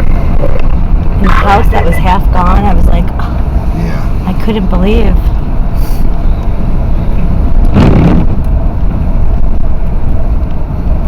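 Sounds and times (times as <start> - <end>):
car driving rumble: 0.0 - 11.0
wind buffeting microphone: 0.0 - 11.0.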